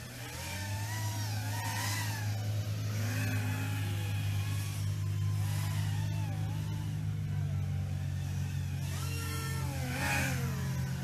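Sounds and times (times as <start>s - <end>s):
quadcopter motors whining: 0.0s - 11.0s
steady low drone: 0.0s - 11.0s.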